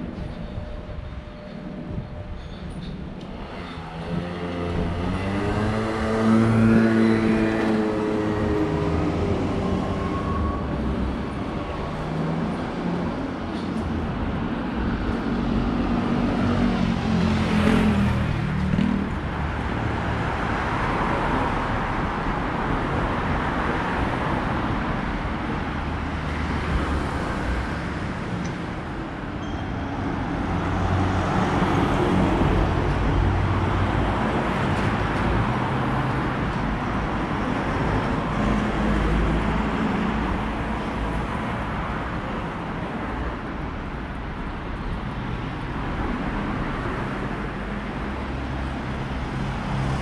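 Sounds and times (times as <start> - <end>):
vehicles passing: 0.0 - 50.0.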